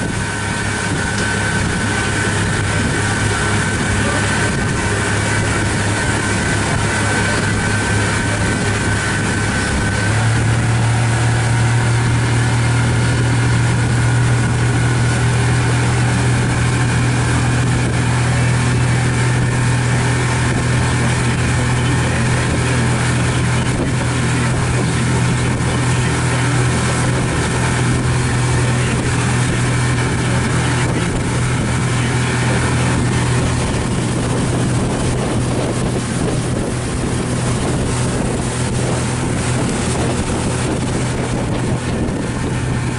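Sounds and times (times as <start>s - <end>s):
outboard motor running: 0.0s - 42.9s
rushing wind: 0.0s - 42.9s
water noise: 0.0s - 42.9s.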